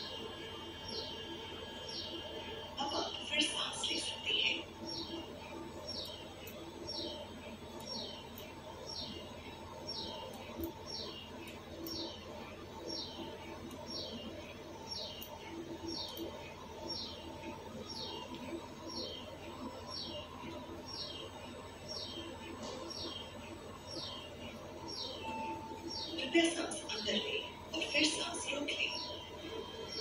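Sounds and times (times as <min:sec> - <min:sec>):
steady low hum: 0:00.0 - 0:30.0
bird chirping: 0:03.6 - 0:30.0.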